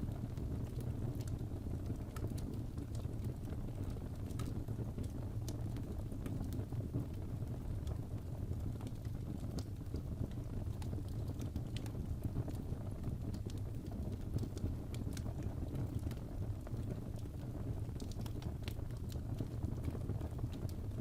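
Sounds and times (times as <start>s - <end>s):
fire rumbling: 0.0s - 21.0s
wood crackling and popping: 0.0s - 21.0s.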